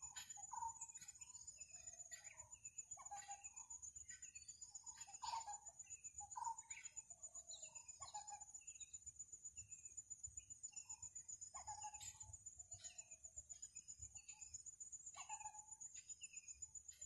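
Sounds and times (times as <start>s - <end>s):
bird calls and chirps: 0.0s - 17.0s.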